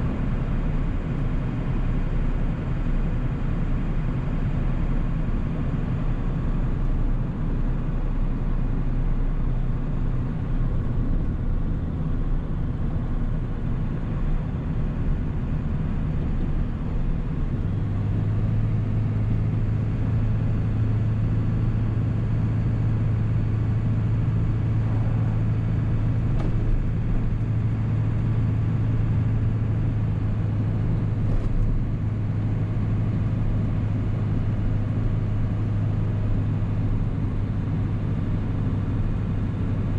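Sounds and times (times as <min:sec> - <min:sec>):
diesel truck engine running: 0:00.0 - 0:39.9
steady low drone: 0:00.0 - 0:39.9.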